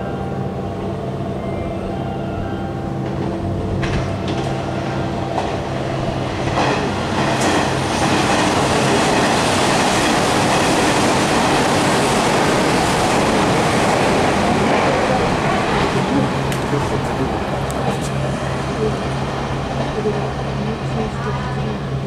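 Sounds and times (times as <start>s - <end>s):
train low hum: 0.0s - 22.0s
train wheels rushing on rail: 3.0s - 22.0s.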